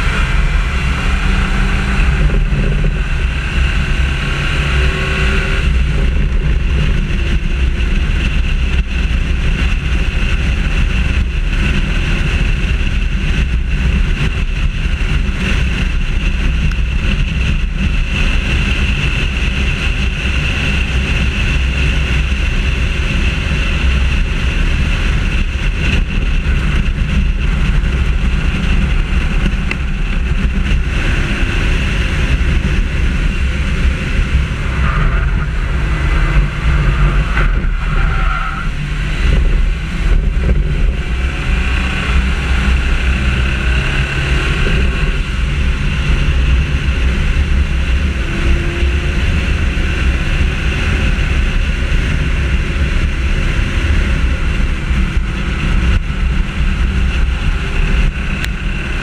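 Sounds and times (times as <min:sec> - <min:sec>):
car engine rumble at speed: 0:00.0 - 0:59.0.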